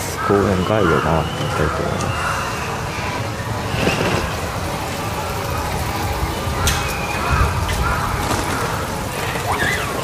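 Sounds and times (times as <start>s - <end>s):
rumble of passing cars: 0.8s - 10.0s.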